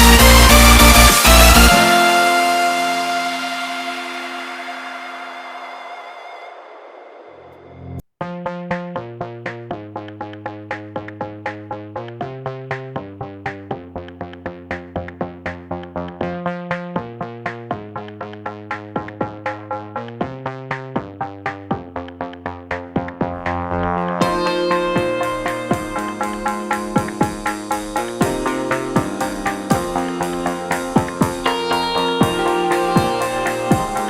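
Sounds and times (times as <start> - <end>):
drum machine beat: 0.0 - 3.0, 8.3 - 34.0
synthesizer chords: 0.0 - 6.7, 7.8 - 34.0.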